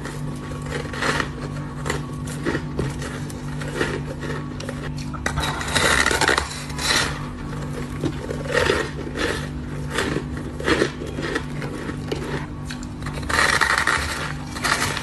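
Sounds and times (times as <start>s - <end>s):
chewing ice crunching: 0.0s - 15.0s
steady low hum: 0.0s - 15.0s.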